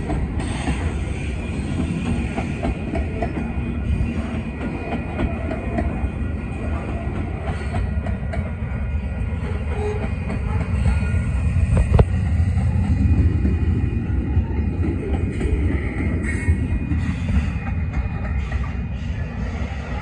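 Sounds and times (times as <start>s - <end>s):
rail joint clicks: 0.0s - 20.0s
train wheels rumbling on rail: 0.0s - 20.0s.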